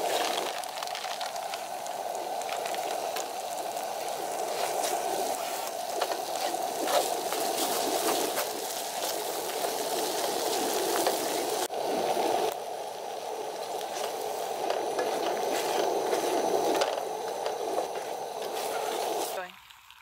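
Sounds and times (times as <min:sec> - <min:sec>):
cheese sauce bubbling and sizzling: 0:00.0 - 0:20.0.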